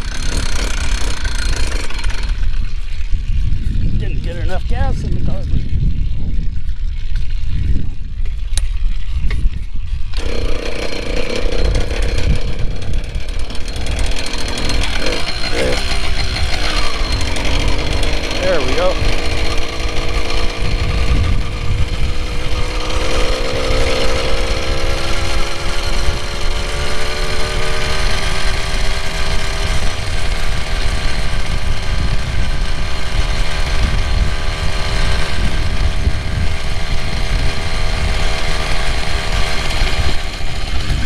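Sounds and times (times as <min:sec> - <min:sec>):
heavy low rumble: 0:00.0 - 0:41.0
small two-stroke engine running: 0:00.0 - 0:41.0.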